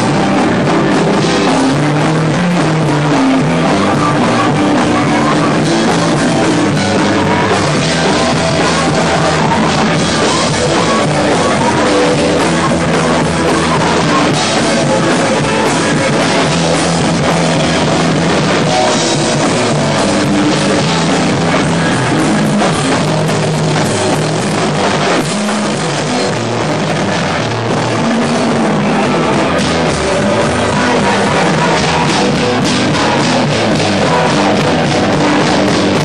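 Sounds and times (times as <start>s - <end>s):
loud rock music: 0.0s - 36.0s.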